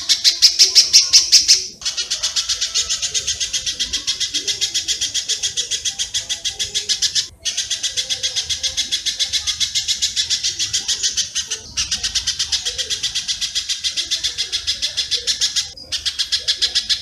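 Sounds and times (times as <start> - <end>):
recorded bird chirps: 0.0 - 17.0.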